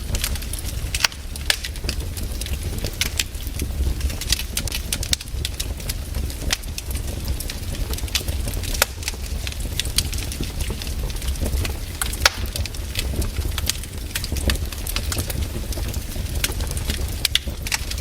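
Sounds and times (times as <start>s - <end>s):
low rumble of flames: 0.0s - 18.0s
wood fire sharp pops: 0.0s - 18.0s.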